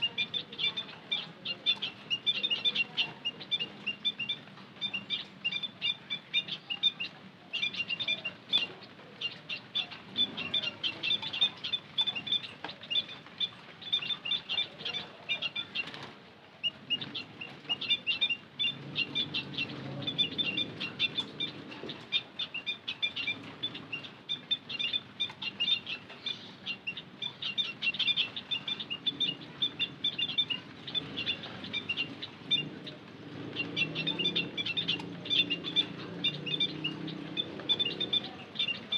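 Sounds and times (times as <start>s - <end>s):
munias chirping: 0.0s - 38.9s.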